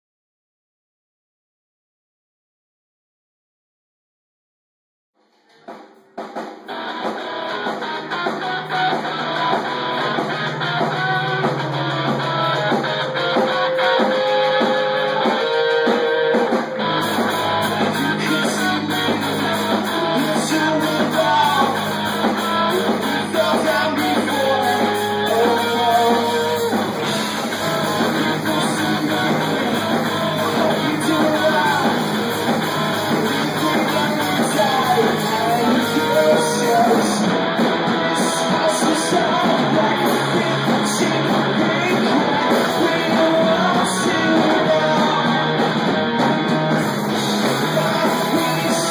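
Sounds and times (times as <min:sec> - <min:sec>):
live rock band playing: 0:05.7 - 0:48.9.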